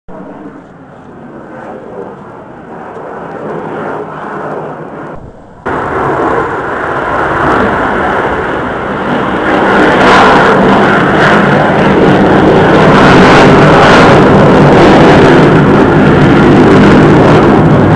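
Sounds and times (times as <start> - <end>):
jet engine roar: 0.1 - 17.9.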